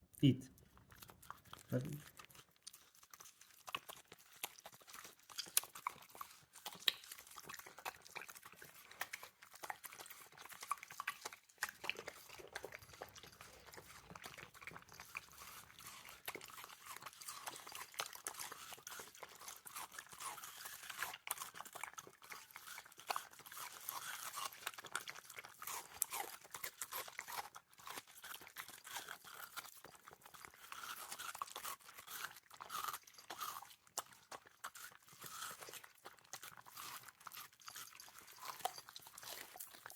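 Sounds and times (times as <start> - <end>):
dogs chewing watermelon: 0.6 - 39.9.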